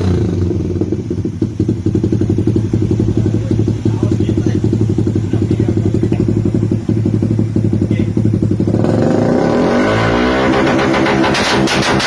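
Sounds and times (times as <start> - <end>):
exhaust crackle: 0.0 - 12.0
motorcycle engine idling and revving: 0.0 - 12.0.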